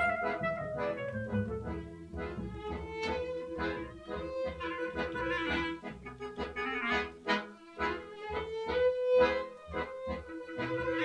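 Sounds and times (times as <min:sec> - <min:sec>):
accordion: 0:00.0 - 0:11.0
clarinet: 0:00.0 - 0:11.0
plucked double bass: 0:00.0 - 0:11.0
violin: 0:00.0 - 0:11.0.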